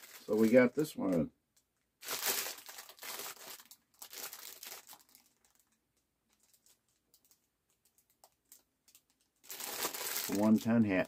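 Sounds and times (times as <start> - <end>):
plastic bag crinkling: 0.0 - 1.3, 2.0 - 11.0.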